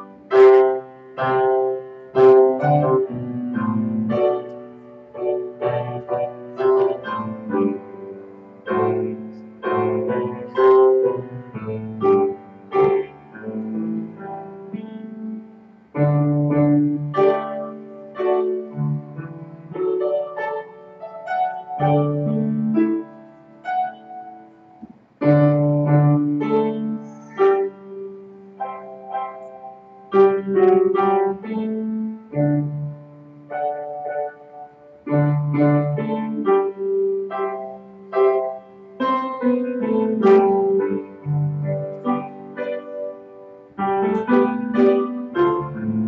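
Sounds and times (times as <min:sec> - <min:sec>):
slow solo piano: 0:00.0 - 0:46.0.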